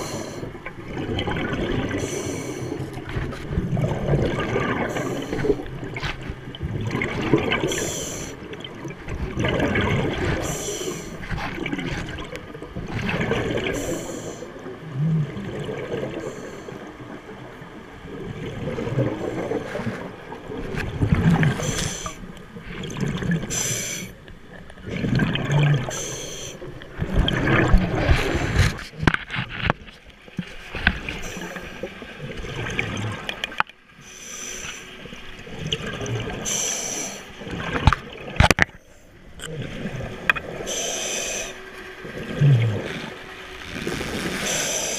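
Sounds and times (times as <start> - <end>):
muffled underwater sloshing: 0.0 - 44.9.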